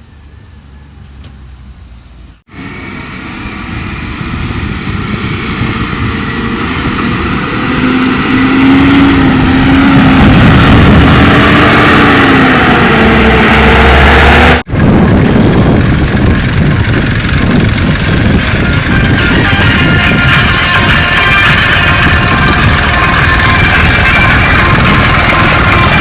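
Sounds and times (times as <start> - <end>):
heavy diesel engine running: 2.5 - 26.0.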